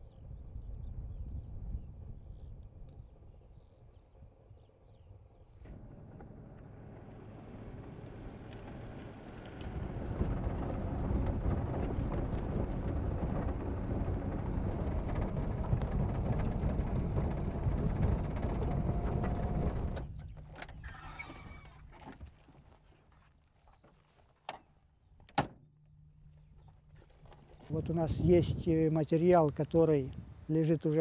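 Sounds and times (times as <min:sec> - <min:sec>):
vehicle engine and tyre rumble: 0:00.2 - 0:25.2, 0:25.8 - 0:31.0.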